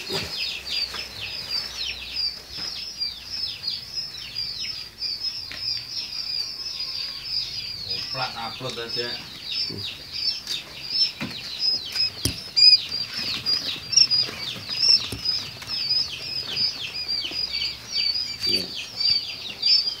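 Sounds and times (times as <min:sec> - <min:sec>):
quail chicks peeping: 0:00.0 - 0:20.0.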